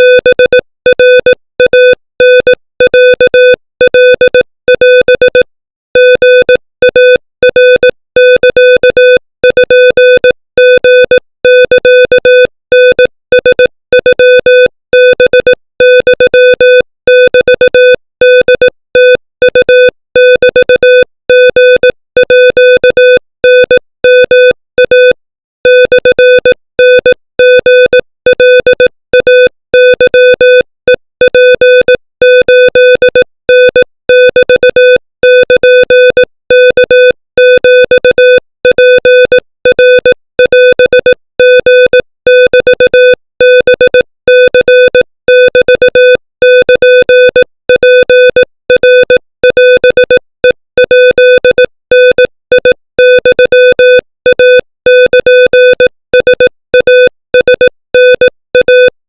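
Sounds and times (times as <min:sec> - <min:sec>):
morse code beeps: 0:00.0 - 0:59.0.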